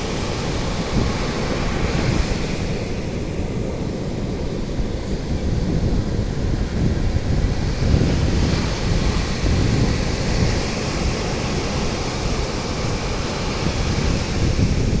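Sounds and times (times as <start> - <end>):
sea waves washing: 0.0 - 15.0
wind rumbling on microphone: 0.0 - 15.0.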